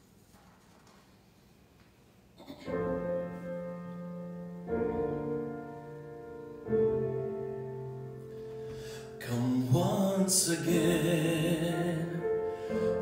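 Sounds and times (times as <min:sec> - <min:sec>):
sustained piano chords: 0:02.4 - 0:13.0.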